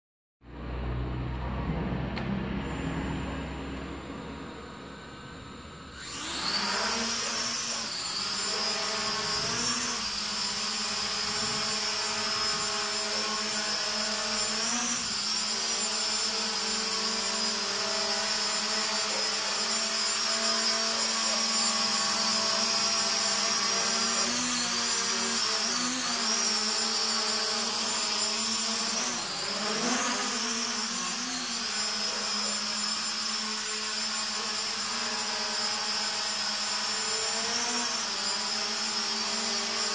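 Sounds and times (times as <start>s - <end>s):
quadcopter propellers whining: 0.5s - 39.9s.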